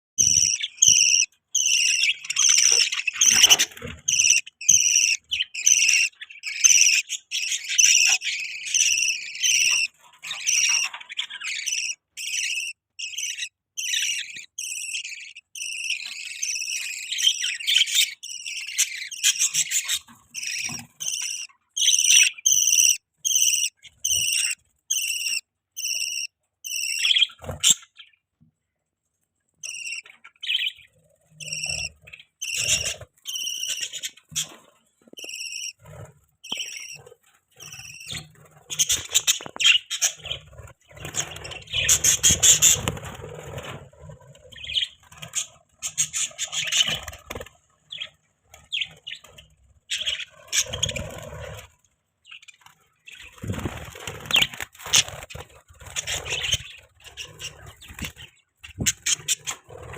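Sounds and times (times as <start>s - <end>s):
budgerigars chirping: 0.2s - 28.2s, 29.6s - 59.9s.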